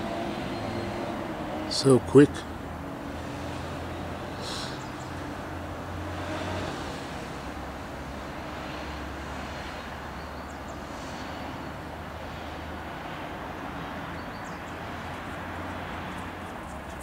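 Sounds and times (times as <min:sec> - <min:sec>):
distant city traffic hum: 0:00.0 - 0:17.0.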